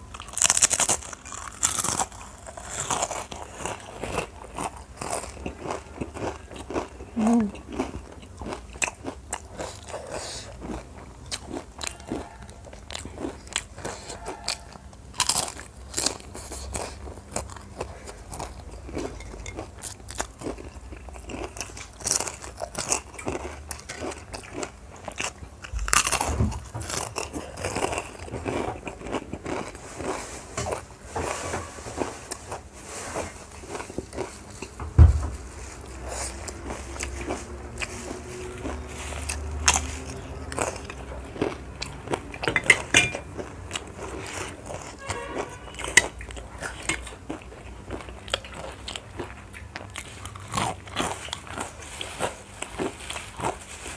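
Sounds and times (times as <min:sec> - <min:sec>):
person crunching and chewing food: 0:00.0 - 0:53.9.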